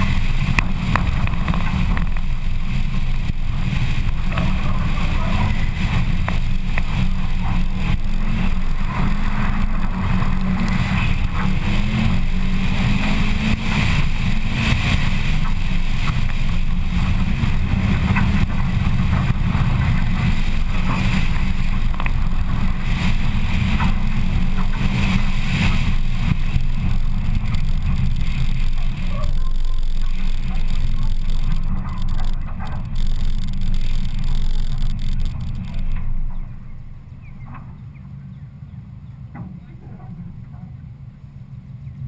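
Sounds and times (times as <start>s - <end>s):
tyres on gravel: 0.0s - 37.7s
car engine under hard throttle: 0.0s - 38.3s.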